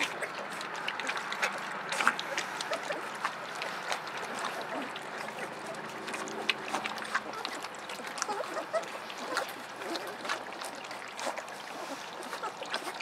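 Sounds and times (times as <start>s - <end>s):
puppies lapping liquid: 0.0s - 13.0s.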